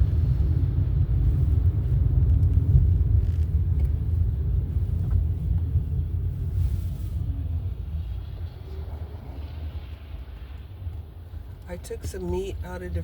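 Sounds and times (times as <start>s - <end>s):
car rumble: 0.0s - 13.0s.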